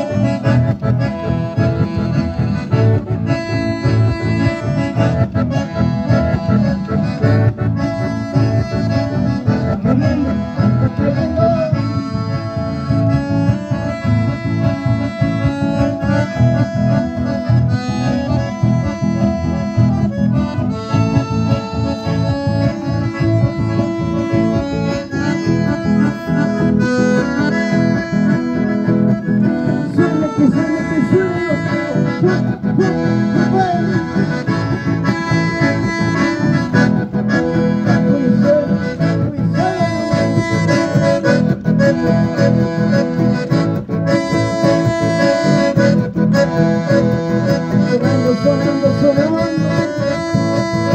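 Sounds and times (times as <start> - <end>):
accordion and guitar dance tune: 0.0 - 50.9.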